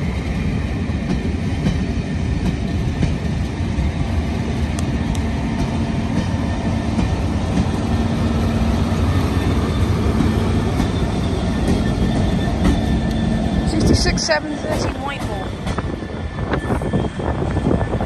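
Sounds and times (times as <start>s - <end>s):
diesel locomotive hum: 0.0s - 18.0s
train coaches rumbling past: 0.0s - 18.0s.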